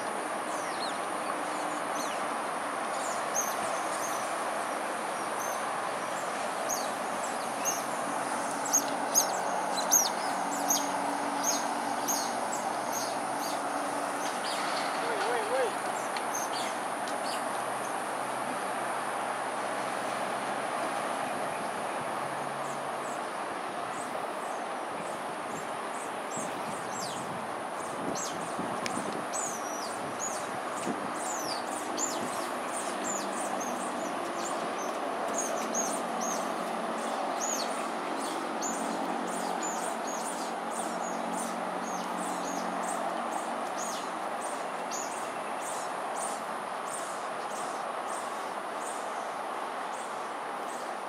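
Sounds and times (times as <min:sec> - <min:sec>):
distant road traffic hum: 0:00.0 - 0:51.0.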